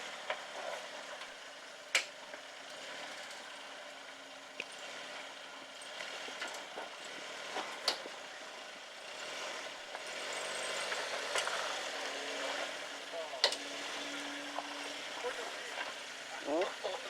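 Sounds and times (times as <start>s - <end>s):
engine droning at low revs: 0.0s - 17.0s.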